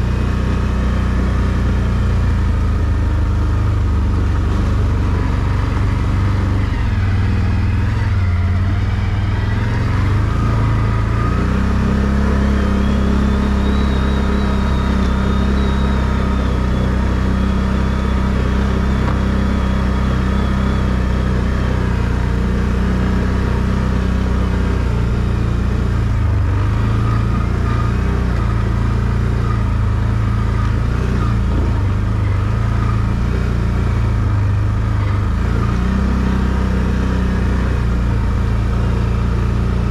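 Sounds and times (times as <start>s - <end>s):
quad engine running: 0.0s - 39.9s
faint high whine: 1.4s - 34.2s.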